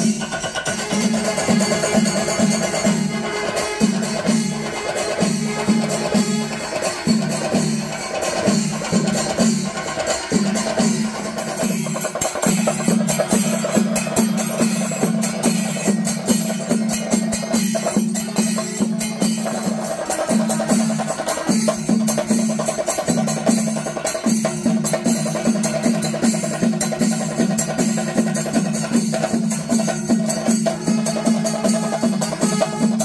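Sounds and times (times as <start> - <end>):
drums beating steady rhythm: 0.0 - 33.0
hand cymbals: 0.0 - 33.0.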